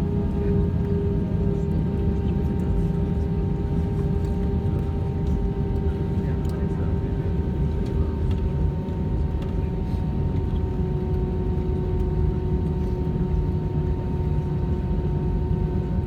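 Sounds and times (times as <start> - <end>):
jet engines running at low power: 0.0 - 16.0.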